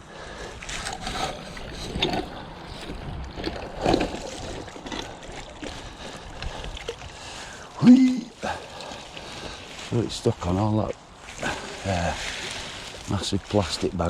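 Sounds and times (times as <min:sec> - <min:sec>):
water sloshing and splashing: 0:00.1 - 0:14.0.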